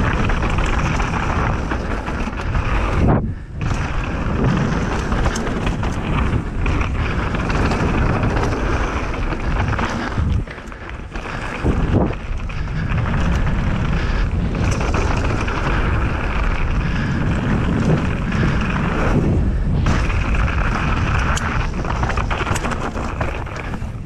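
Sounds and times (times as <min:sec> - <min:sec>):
bike rattles and knocks: 0:00.0 - 0:24.0
tyres rumbling on dirt: 0:00.0 - 0:24.0
wind rushing over microphone: 0:00.0 - 0:24.0.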